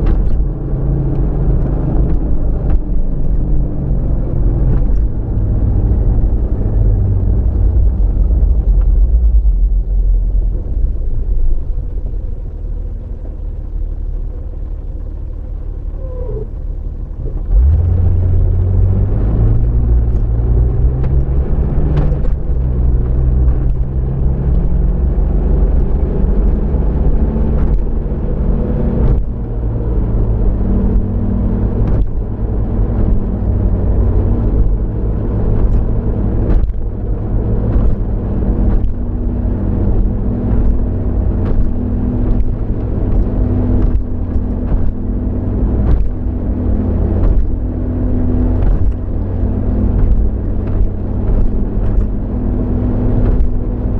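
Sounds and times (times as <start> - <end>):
car engine and road rumble: 0.0 - 53.9.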